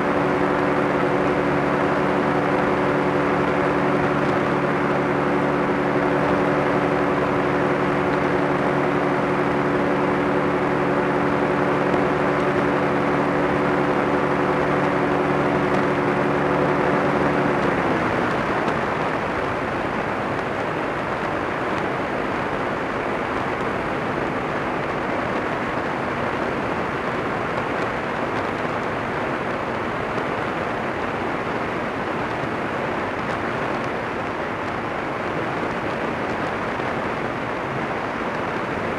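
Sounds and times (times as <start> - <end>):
aircraft engine drone: 0.0 - 38.9
rush of wind: 0.0 - 38.9.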